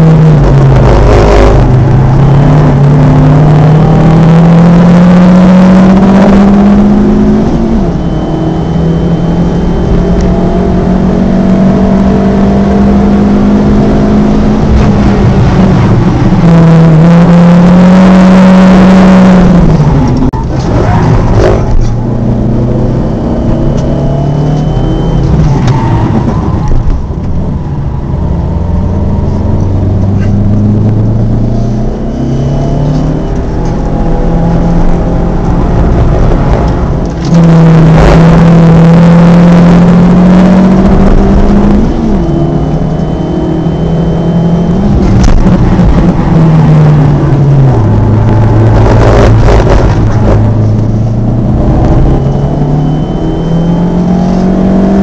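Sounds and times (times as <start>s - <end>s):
car engine under hard driving: 0.0s - 55.0s.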